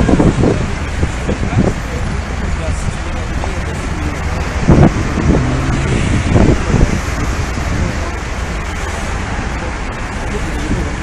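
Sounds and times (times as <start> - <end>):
busy street traffic: 0.0 - 11.0.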